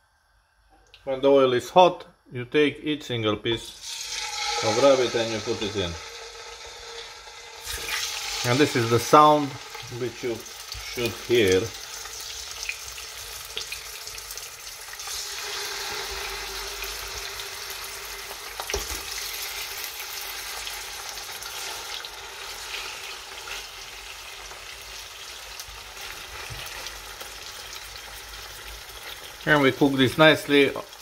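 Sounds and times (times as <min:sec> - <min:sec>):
meat sizzling in hot oil: 0:03.8 - 0:31.0.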